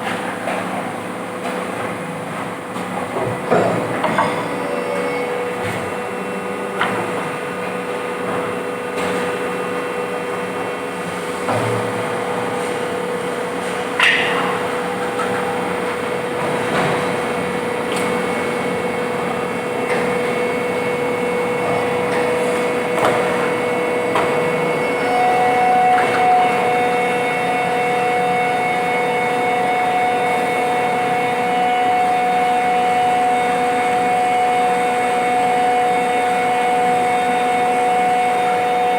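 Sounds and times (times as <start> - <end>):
machine hum: 3.2 - 38.9.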